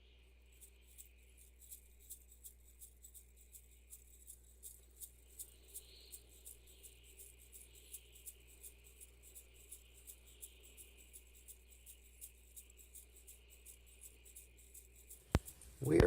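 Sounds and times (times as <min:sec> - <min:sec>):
low steady hum: 0:00.0 - 0:16.0
shaker-like high ticks: 0:00.3 - 0:16.0.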